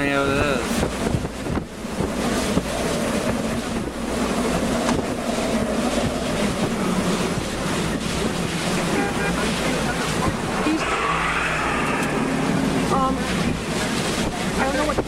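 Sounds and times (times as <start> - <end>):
car engine hum: 0.0 - 15.0
road noise: 0.0 - 15.0
strong wind buffeting microphone: 0.0 - 15.0.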